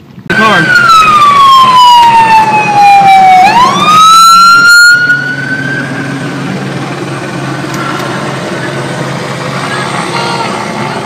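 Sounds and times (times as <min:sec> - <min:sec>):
police siren wailing: 0:00.3 - 0:11.0.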